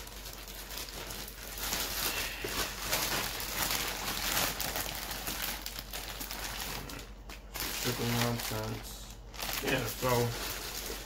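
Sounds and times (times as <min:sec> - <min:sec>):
plastic bag tearing and crinkling: 0:00.0 - 0:11.0.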